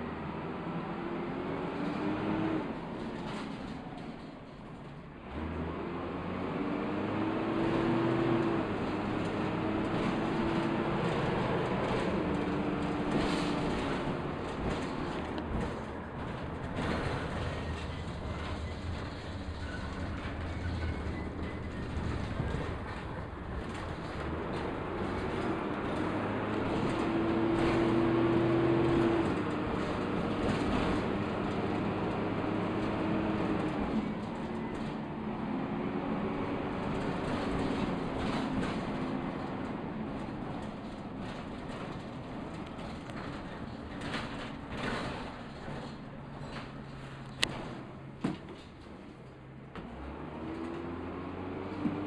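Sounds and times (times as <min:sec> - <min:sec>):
bus engine running: 0:00.0 - 0:52.0
road rumble: 0:00.0 - 0:52.0
rattling of bus body and fittings: 0:02.7 - 0:05.2, 0:07.6 - 0:35.5, 0:36.2 - 0:51.0.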